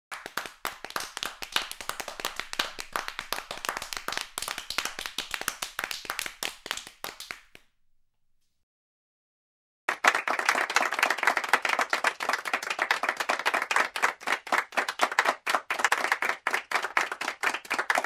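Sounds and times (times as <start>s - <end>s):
people clapping: 0.1s - 7.8s, 9.9s - 18.0s.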